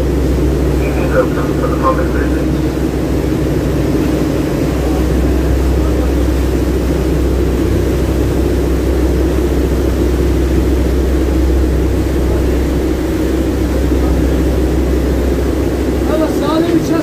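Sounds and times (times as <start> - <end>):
ferry engines droning: 0.0 - 17.0
propeller wake churning: 0.0 - 17.0.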